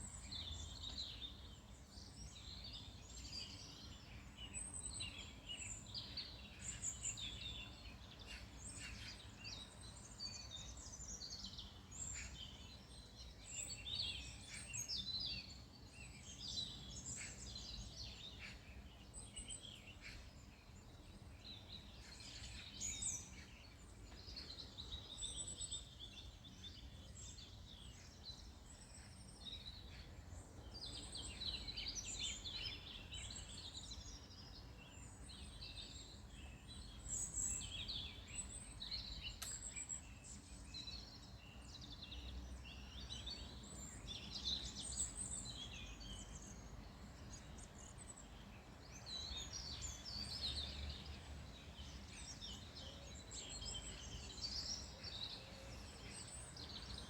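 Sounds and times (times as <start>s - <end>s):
songbirds chirping and singing: 0.1s - 57.0s.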